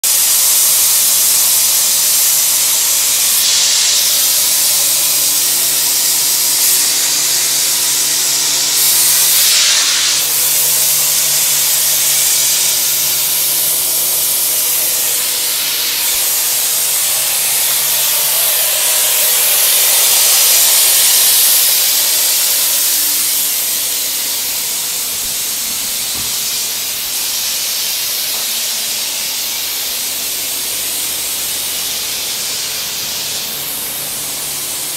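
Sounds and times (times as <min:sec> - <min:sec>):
loud rushing hiss: 0:00.0 - 0:34.9.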